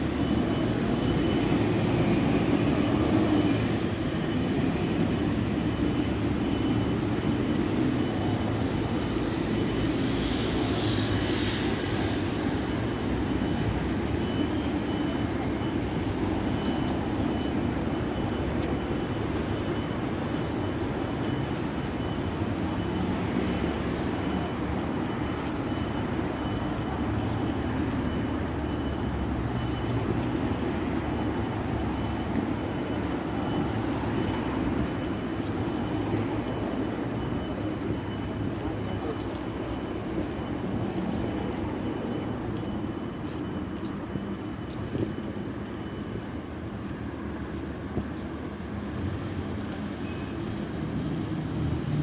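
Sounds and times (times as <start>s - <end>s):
city street traffic rumble: 0.0s - 52.0s.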